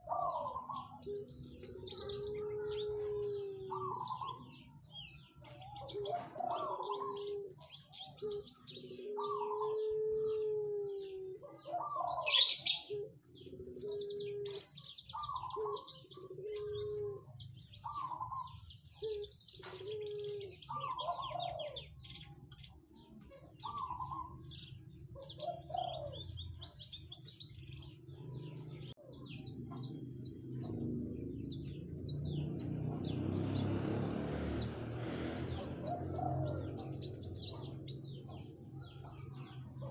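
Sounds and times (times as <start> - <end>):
bird chirps and trills: 0.0 - 39.9
low cooing calls: 0.0 - 39.9.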